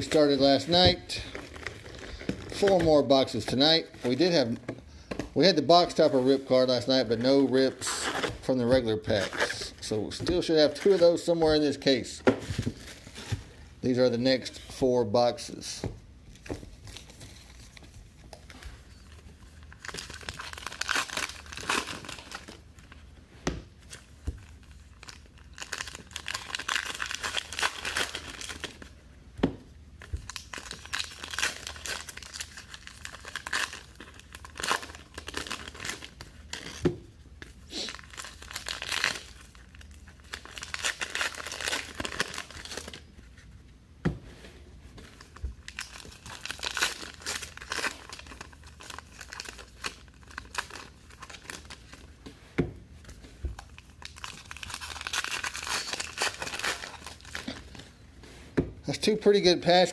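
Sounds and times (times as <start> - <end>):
plastic wrapping crinkling and tearing: 0.0 - 4.6, 5.4 - 13.6, 16.3 - 23.1, 23.8 - 29.0, 30.0 - 43.5, 45.1 - 52.2, 53.0 - 58.0.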